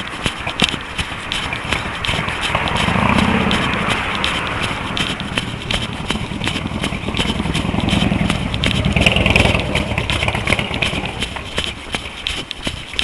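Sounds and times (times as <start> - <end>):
runner's footfalls: 0.0 - 13.0
vehicle engine rumble passing: 0.1 - 12.0.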